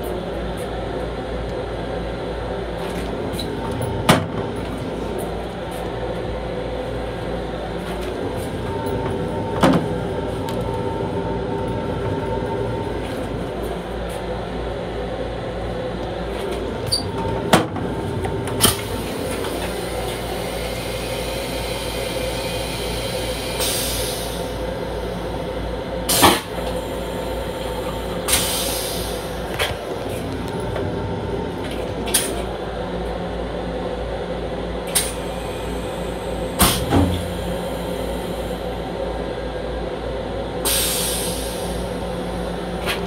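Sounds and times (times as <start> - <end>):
train car rumble and hum: 0.0 - 43.0.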